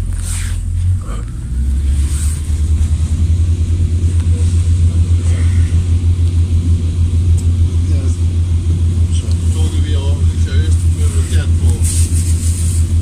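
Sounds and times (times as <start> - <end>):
vehicle rumble from inside: 0.0 - 13.0.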